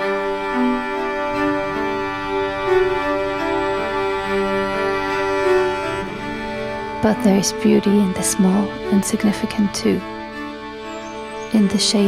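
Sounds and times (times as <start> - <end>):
slow keyboard pad chords: 0.0 - 12.0.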